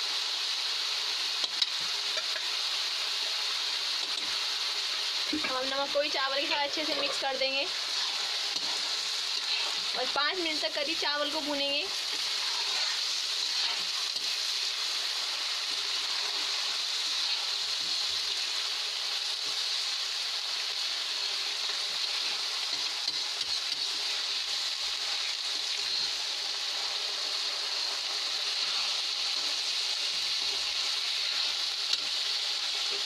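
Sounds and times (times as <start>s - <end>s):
rice sizzling in hot oil: 0.0s - 33.0s.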